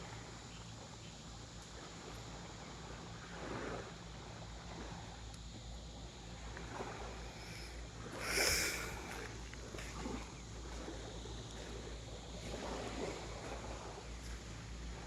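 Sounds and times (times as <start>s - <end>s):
small waves washing on beach: 1.6s - 15.0s
wind rumbling on microphone: 1.7s - 15.0s.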